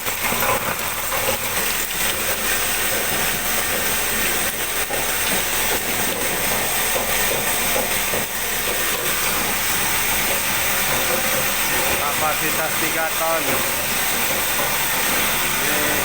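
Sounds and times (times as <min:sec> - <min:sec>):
ice machines running: 0:00.0 - 0:16.0.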